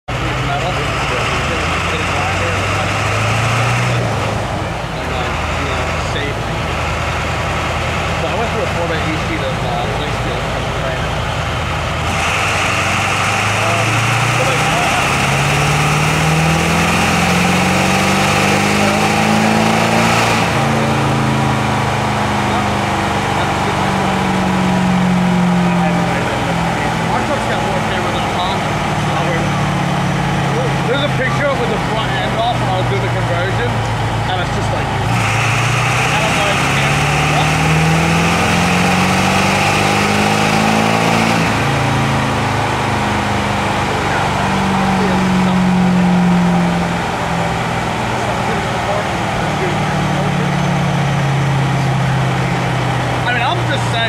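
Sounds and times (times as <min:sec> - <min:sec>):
diesel engine revving under load: 0:00.0 - 0:54.0.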